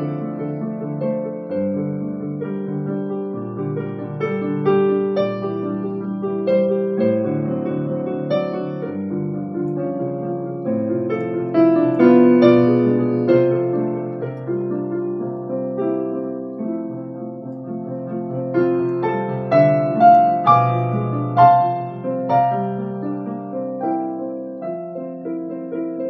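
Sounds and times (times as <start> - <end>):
classical piano playing: 0.0 - 26.0.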